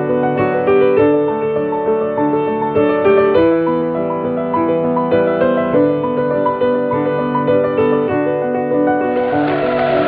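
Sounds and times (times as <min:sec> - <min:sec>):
solo piano music: 0:00.0 - 0:10.0.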